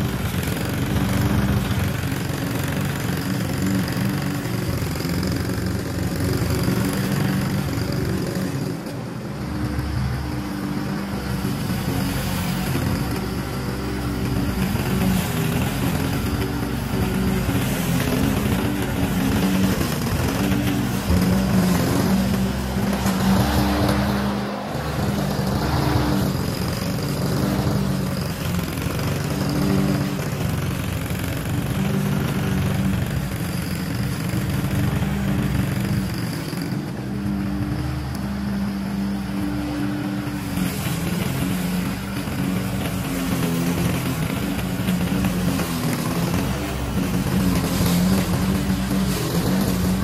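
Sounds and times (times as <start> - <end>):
lawn mower engine cutting grass: 0.0 - 50.0.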